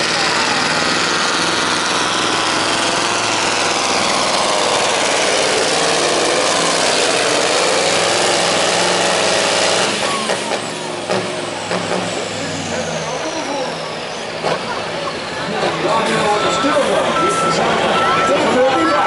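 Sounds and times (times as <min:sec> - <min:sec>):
truck engine under heavy load: 0:00.0 - 0:19.0.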